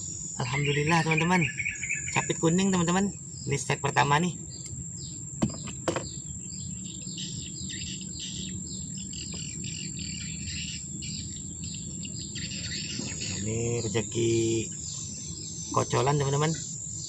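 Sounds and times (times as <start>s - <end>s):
high insect drone: 0.0s - 17.0s
low background rumble: 0.0s - 17.0s
small birds chirping: 0.0s - 17.0s.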